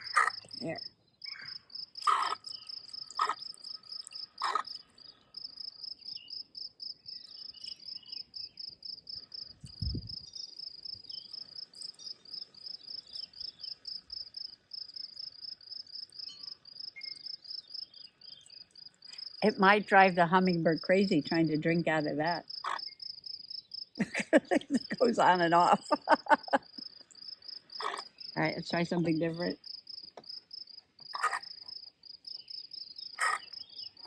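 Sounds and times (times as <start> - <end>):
insects trilling: 0.0 - 19.5, 20.4 - 34.0.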